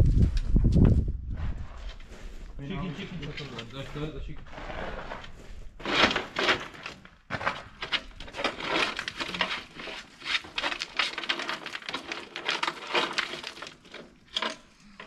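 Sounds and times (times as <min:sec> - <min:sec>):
stones clattering and scraping: 0:02.7 - 0:15.0.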